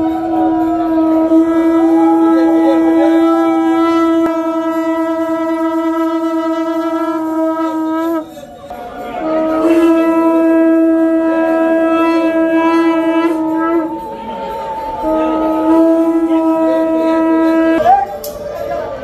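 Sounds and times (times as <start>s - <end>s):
conch shell blasts: 0.0s - 18.5s.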